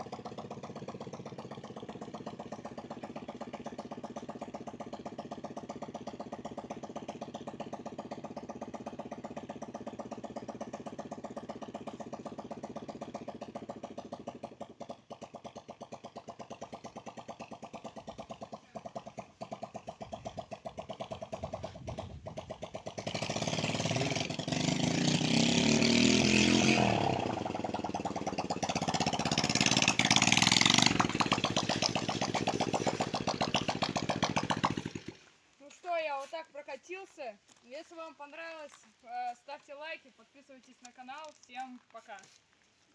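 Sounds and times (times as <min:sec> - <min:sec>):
motorcycle engine: 0:00.0 - 0:35.5.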